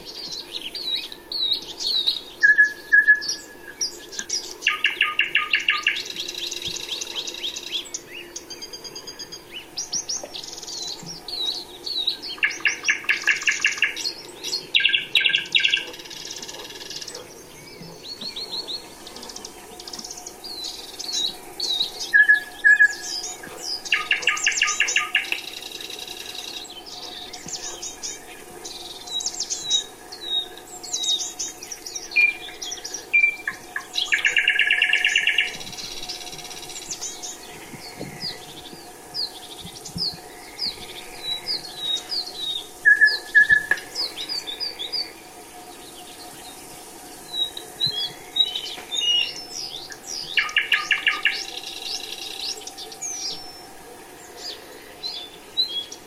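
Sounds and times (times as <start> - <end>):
bird trill: 0.0 - 46.6, 47.3 - 56.0
songbirds chirping: 0.0 - 56.0.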